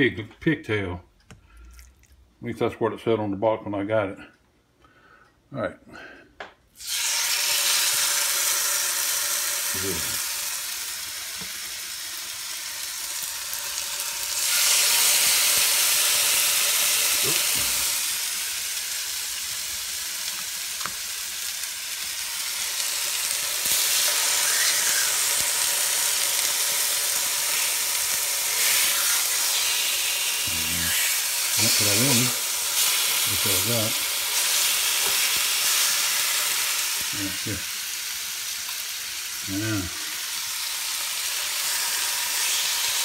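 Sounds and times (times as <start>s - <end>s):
meat sizzling in hot oil: 6.8s - 43.0s.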